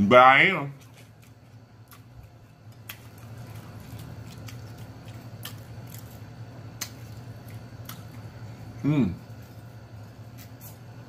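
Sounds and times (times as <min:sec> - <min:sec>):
steady low hum: 0:00.0 - 0:11.0
chewing food: 0:00.7 - 0:10.8.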